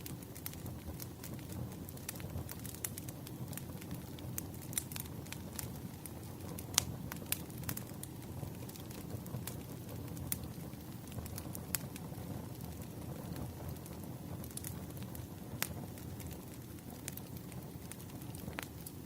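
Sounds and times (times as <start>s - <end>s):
burning logs crackling and popping: 0.0s - 19.0s
low rumble of flame: 0.0s - 19.0s.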